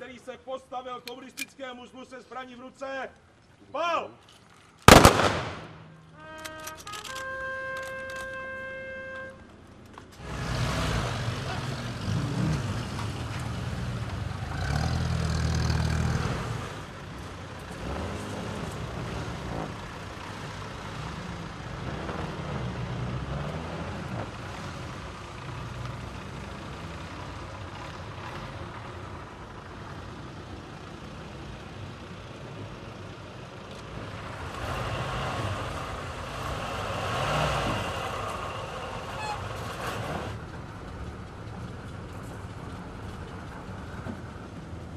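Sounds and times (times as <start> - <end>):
vehicle engines rumbling: 0.0 - 44.9.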